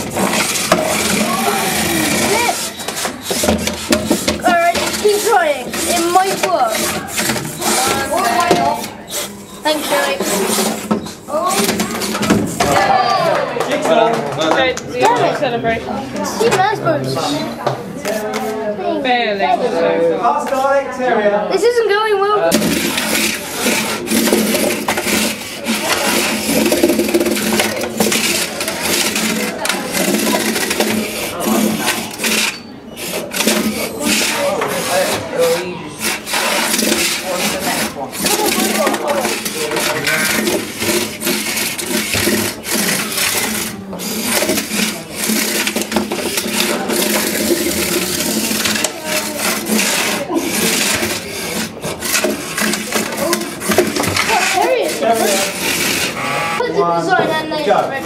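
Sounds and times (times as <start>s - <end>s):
electric motors whirring: 0.0s - 12.8s, 22.5s - 56.7s
robots scraping and grinding: 0.0s - 14.1s, 22.4s - 56.7s.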